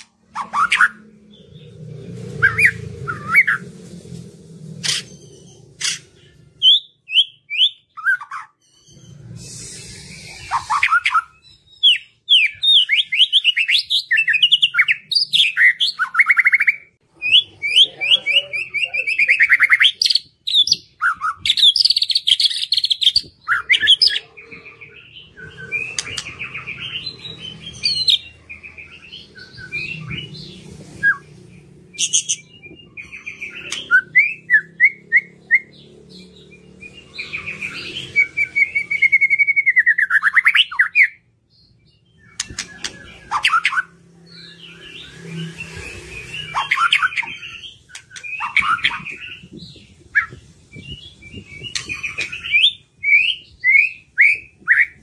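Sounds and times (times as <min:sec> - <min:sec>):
songbird singing trills: 0:04.8 - 0:55.0.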